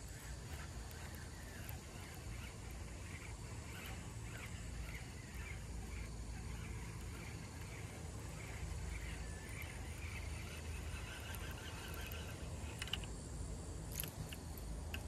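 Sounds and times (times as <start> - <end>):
faint chirps: 0.0 - 13.2
fishing reel being cranked: 0.2 - 13.1.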